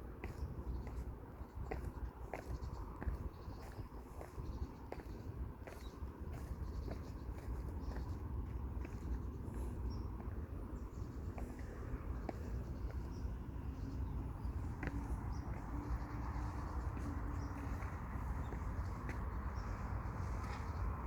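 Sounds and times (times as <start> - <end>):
footsteps on a path: 0.0 - 21.0
low wind rumble: 0.0 - 21.0.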